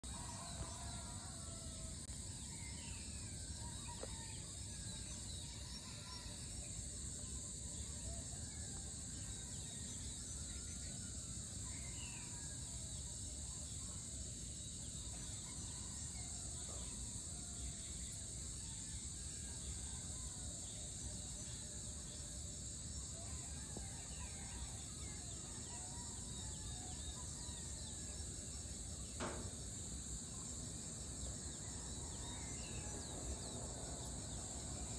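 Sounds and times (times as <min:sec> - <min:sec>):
high insect drone: 0:00.0 - 0:34.9.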